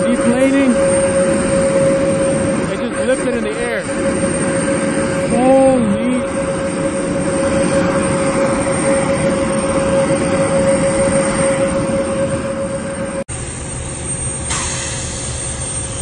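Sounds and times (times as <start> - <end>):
jet engines rushing and whining: 0.0 - 16.0.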